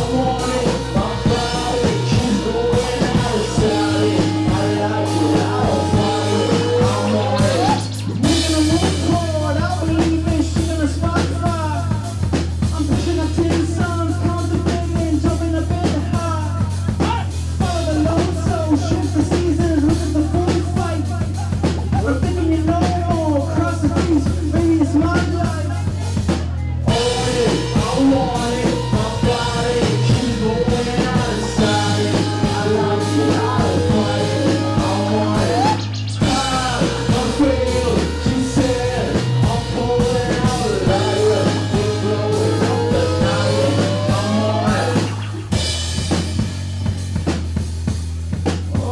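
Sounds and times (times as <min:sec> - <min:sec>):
man singing: 0:00.0 - 0:45.8
drum kit: 0:00.0 - 0:48.9
keyboards: 0:00.0 - 0:48.9.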